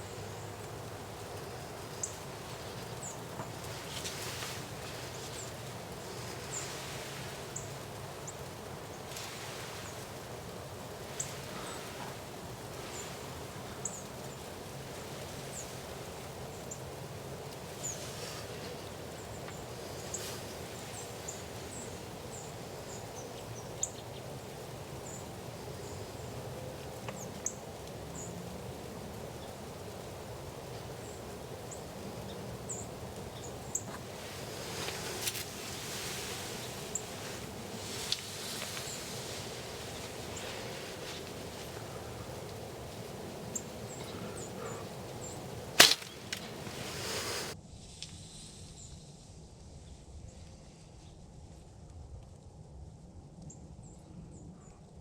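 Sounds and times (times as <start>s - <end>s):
rustling: 0.0s - 23.6s, 24.6s - 47.6s
small birds chirping: 0.0s - 47.6s
steady noise bed: 0.0s - 48.4s.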